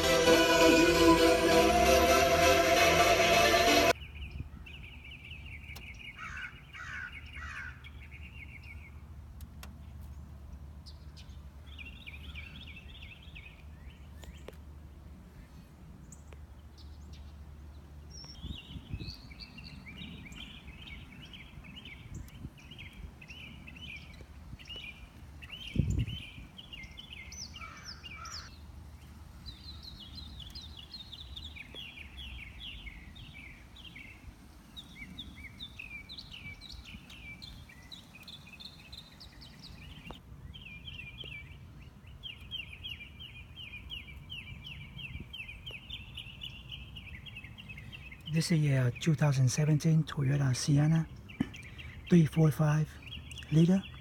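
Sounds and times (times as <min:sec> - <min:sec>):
small birds chirping: 0:04.0 - 0:14.7, 0:15.3 - 0:54.0.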